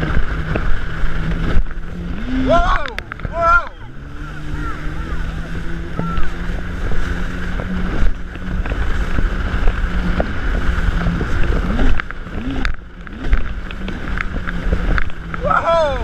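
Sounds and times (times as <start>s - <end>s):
jet ski engine drone: 0.0s - 16.0s
rushing water: 0.0s - 16.0s
wind buffeting microphone: 0.0s - 16.0s.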